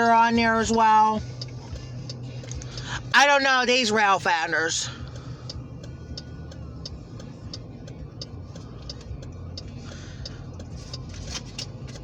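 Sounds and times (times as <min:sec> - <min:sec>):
diesel locomotive engines rumbling: 0:00.0 - 0:12.0
high-pitched ticking: 0:00.2 - 0:11.8.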